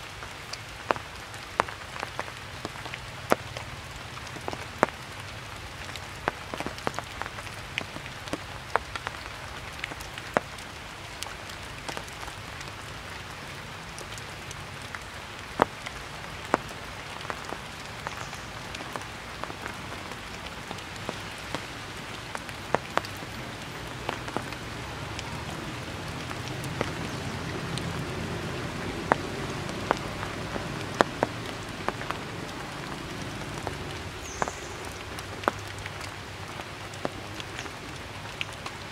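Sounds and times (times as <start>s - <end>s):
raindrops tapping close by: 0.0s - 38.9s
steady rain falling: 0.0s - 38.9s.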